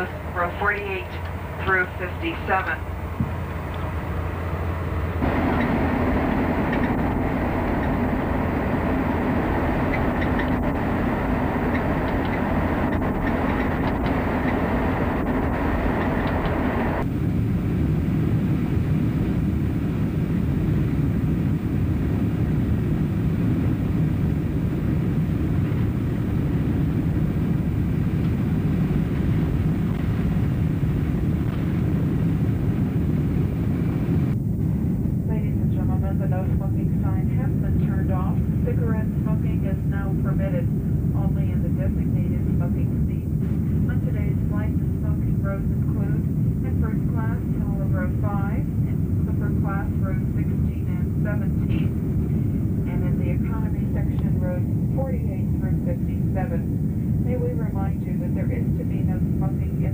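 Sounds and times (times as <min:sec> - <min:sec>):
aircraft cabin rumble: 0:00.0 - 0:59.9
jet airliner roar: 0:00.0 - 0:59.9.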